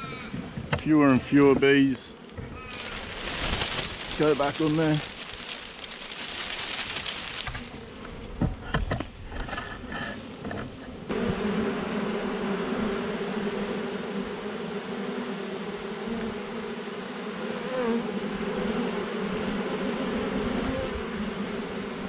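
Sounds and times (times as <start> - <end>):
bees buzzing in flight: 1.6 - 22.0.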